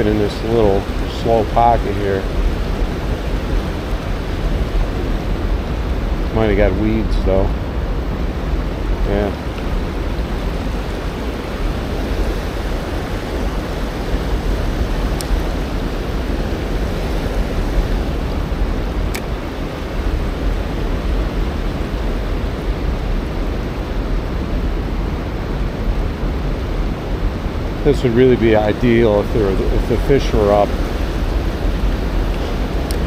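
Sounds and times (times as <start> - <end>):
river rushing through rapids: 0.0 - 33.0.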